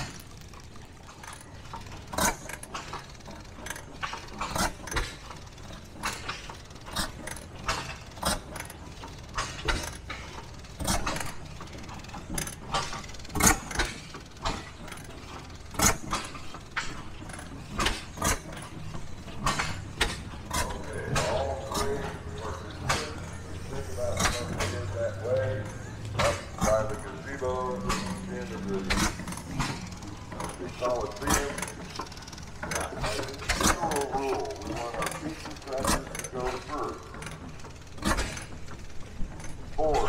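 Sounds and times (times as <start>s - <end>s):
low engine rumble: 0.0s - 40.0s
stationary gas engine running: 0.0s - 40.0s.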